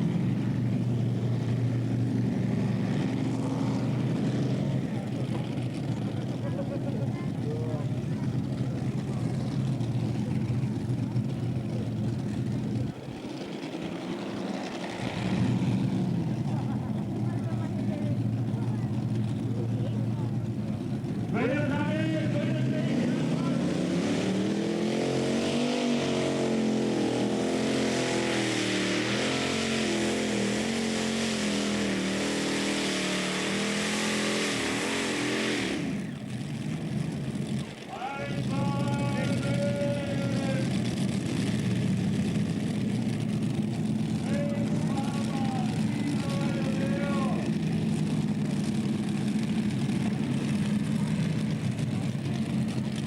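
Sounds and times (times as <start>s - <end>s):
tractor engine running loud: 0.0s - 53.0s
loud rushing exhaust: 7.4s - 53.0s.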